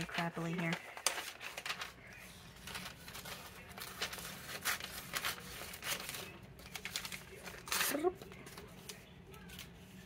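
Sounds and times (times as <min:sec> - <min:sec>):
paper rustling and crinkling: 0:00.0 - 0:10.0
scissors cutting paper: 0:00.0 - 0:10.0.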